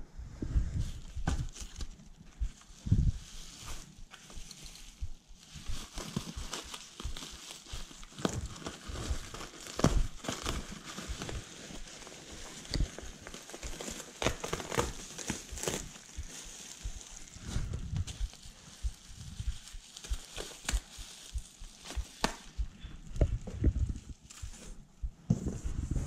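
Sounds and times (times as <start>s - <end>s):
bubble wrap crinkling: 0.8s - 26.0s.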